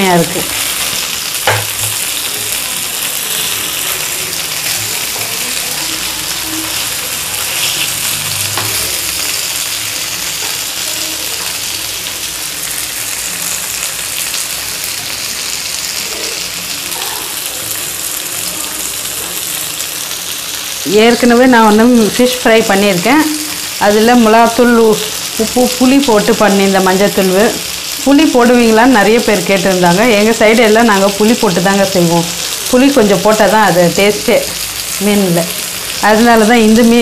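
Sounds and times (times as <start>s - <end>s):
fish sizzling in oil: 0.0s - 37.0s.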